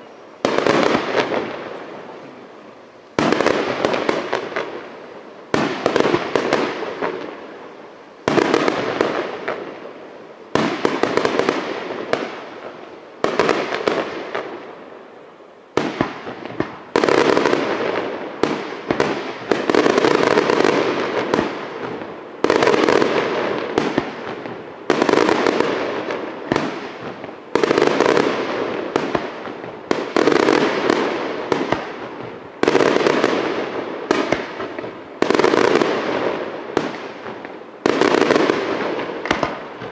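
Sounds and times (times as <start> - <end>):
firework bangs: 0.0 - 2.5, 3.2 - 15.1, 15.7 - 39.9
firework crackling: 0.0 - 39.9.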